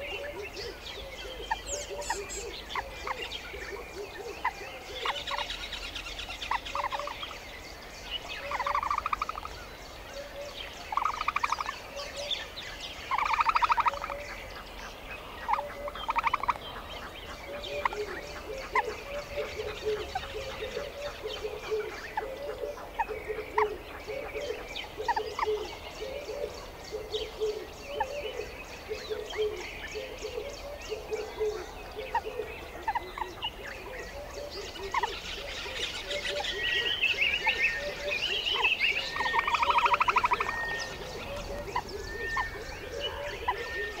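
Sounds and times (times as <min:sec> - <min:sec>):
birds chirping: 0:00.0 - 0:44.0
frogs croaking: 0:00.0 - 0:44.0.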